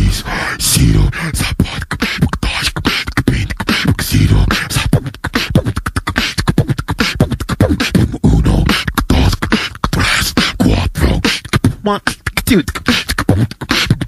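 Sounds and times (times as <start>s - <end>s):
beatboxing: 0.0s - 14.0s.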